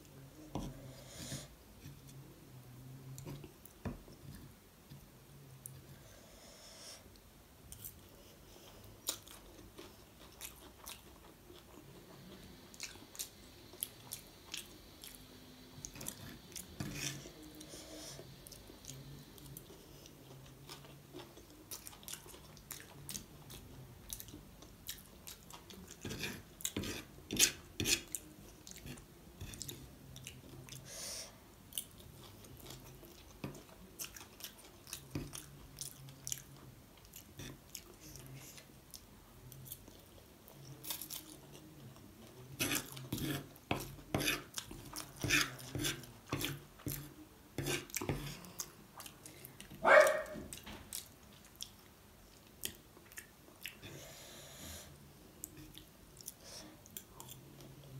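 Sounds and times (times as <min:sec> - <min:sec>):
chewing and wet mouth sounds: 0:07.7 - 0:26.0, 0:26.6 - 0:30.8, 0:31.7 - 0:43.2, 0:43.8 - 0:54.0, 0:55.4 - 0:57.9.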